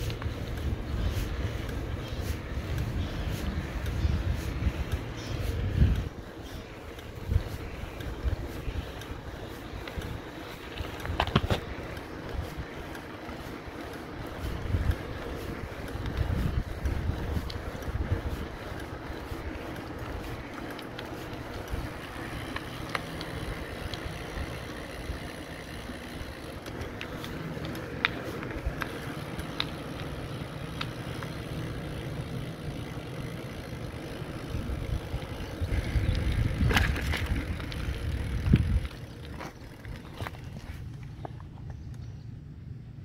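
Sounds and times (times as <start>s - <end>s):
bicycle tyres rumbling on pavement: 0.0s - 43.0s.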